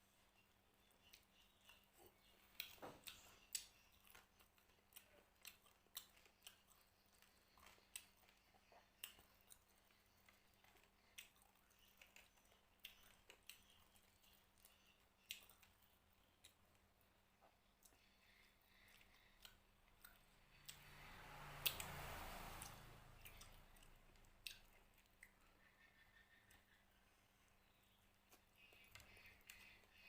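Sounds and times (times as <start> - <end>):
person chewing food: 0.3 - 30.0.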